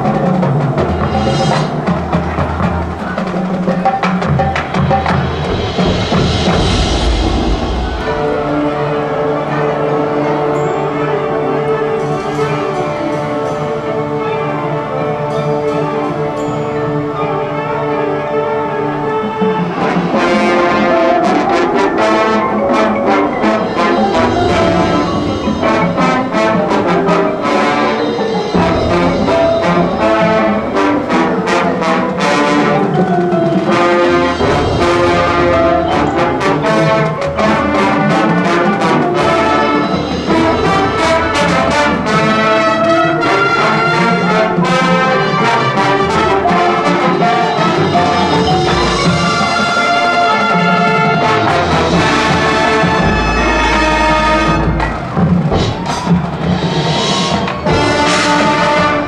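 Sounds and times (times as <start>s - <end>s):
sharp percussion hits: 0.0s - 11.1s, 19.7s - 59.0s
marching band playing: 0.0s - 59.0s.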